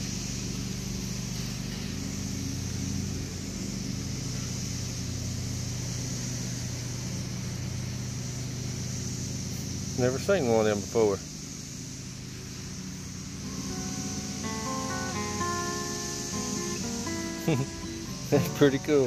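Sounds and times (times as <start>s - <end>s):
high-pitched hiss: 0.0s - 19.0s
low mechanical hum: 0.0s - 19.0s.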